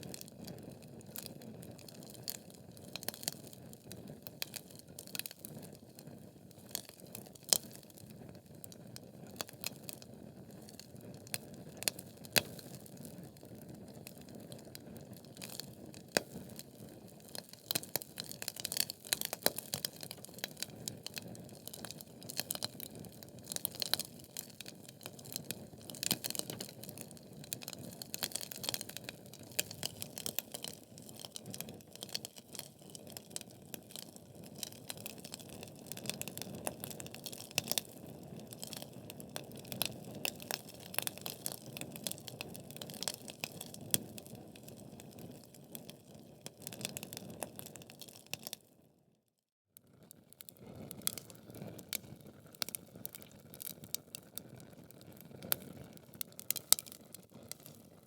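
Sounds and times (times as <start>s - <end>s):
wood fire crackling and popping: 0.0s - 48.6s, 50.4s - 58.0s.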